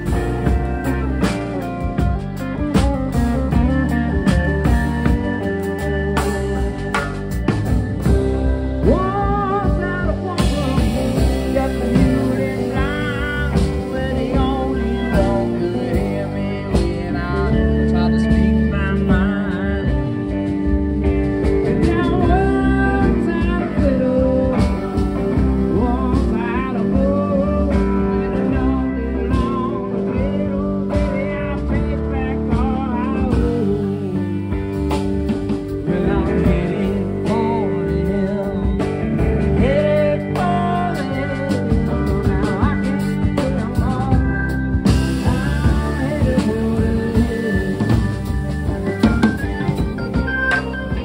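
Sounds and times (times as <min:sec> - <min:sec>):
drums: 0:00.0 - 0:51.0
electric guitar: 0:00.0 - 0:51.0
electronic keyboard: 0:00.0 - 0:51.0.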